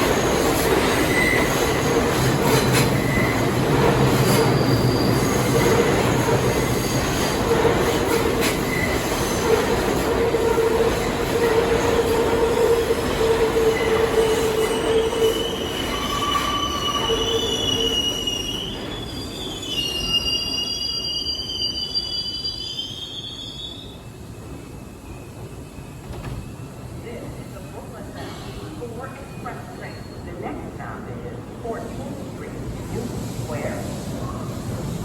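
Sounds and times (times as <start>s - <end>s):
steel wheels squealing on rail: 0.0s - 26.8s, 28.1s - 30.6s
subway train rumbling on rails: 0.0s - 35.0s.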